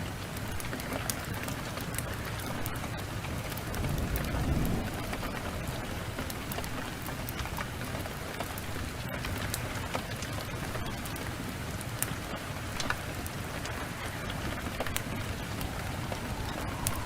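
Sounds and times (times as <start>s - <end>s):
heavy rain falling: 0.0s - 17.0s
sharp ticks and pops: 0.4s - 17.0s.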